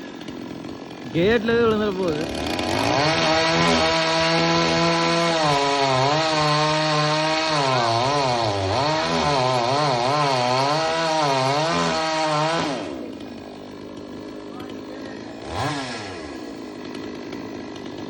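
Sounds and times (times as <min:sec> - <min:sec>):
chainsaw cutting a tree: 0:00.0 - 0:18.0.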